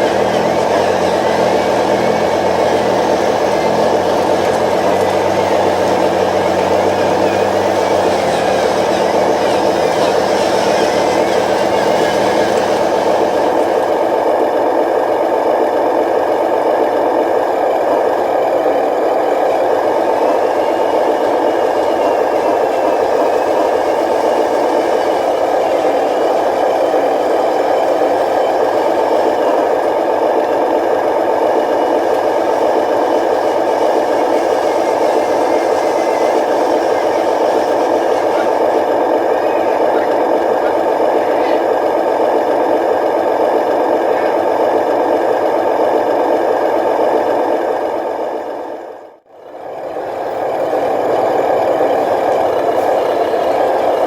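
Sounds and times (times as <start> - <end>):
model truck motor whirring: 0.0 - 54.0.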